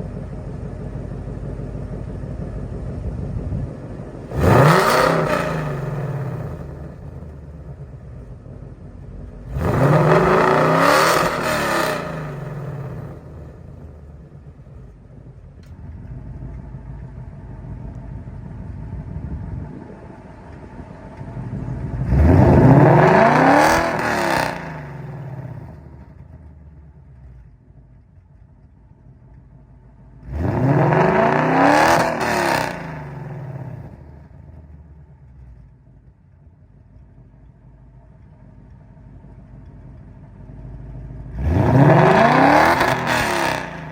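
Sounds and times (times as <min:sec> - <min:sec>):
car engine revving from idle: 0:00.0 - 0:27.6, 0:29.8 - 0:35.8, 0:39.8 - 0:43.9.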